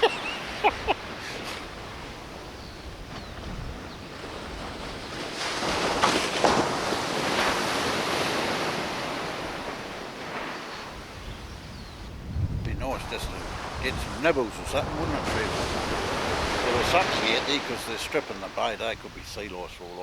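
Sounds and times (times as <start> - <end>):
surf waves breaking: 0.0 - 20.0
wind buffeting microphone: 0.0 - 20.0.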